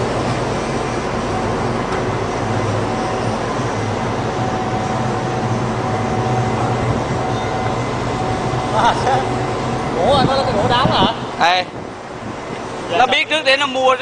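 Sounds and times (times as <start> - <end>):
crane machinery hum: 0.0 - 14.0
faint steady whine: 0.0 - 14.0.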